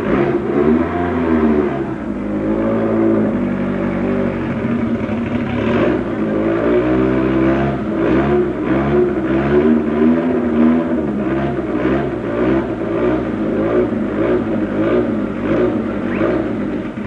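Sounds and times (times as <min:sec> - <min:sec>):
racing car engine revving hard: 0:00.0 - 0:17.0.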